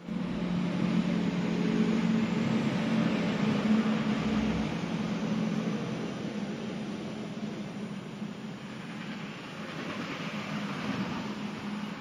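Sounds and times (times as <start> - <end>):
steady hiss: 0.1 - 12.0.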